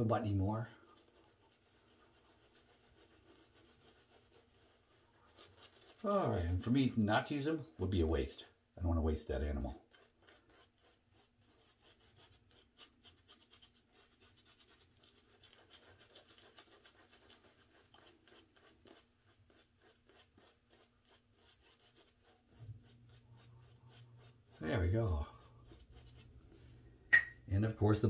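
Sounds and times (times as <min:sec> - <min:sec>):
shaving brush scratching on beard: 0:00.0 - 0:26.6.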